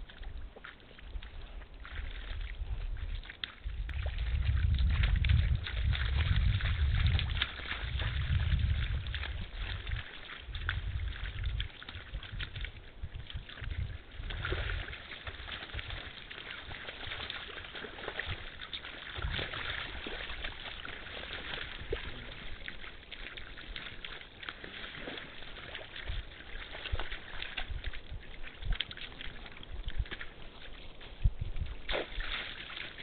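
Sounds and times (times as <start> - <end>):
water splashing and sloshing: 0.0 - 33.0.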